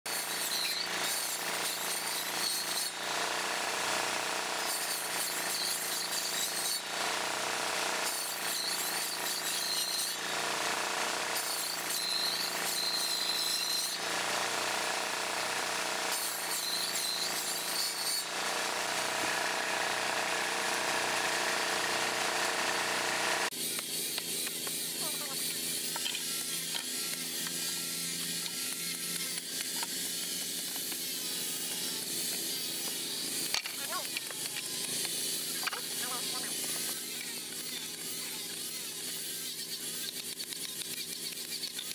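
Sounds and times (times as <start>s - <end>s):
circular saw cutting log: 0.1s - 41.9s
thinner tool sound: 0.1s - 41.9s.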